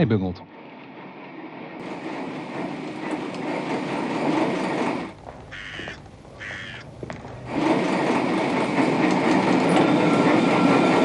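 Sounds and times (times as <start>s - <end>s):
tram wheels rumbling on track: 0.0s - 11.0s
tram high-pitched calls: 1.8s - 11.0s.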